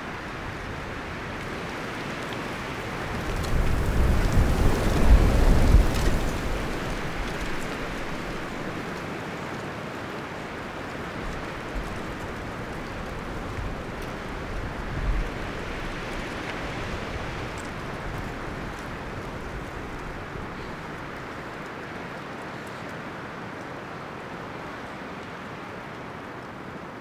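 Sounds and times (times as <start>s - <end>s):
wind rustling tree leaves: 0.0s - 27.0s.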